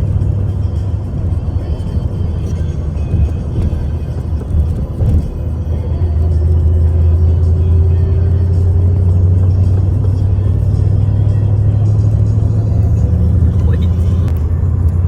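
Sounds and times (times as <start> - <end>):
music playing: 0.0 - 15.0
vehicle engine drone: 0.0 - 15.0.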